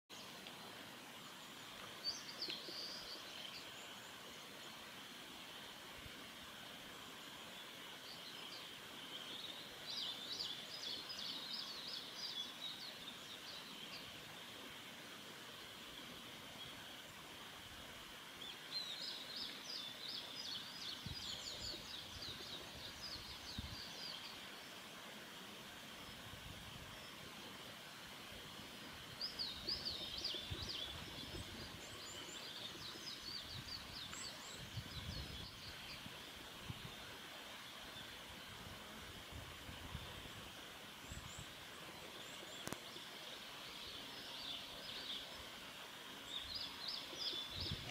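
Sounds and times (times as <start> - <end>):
high-pitched background hiss: 0.1 - 47.9.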